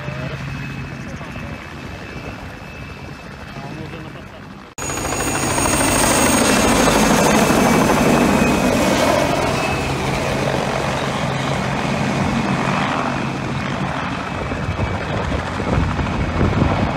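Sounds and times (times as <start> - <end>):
helicopter passing overhead: 0.0 - 16.9.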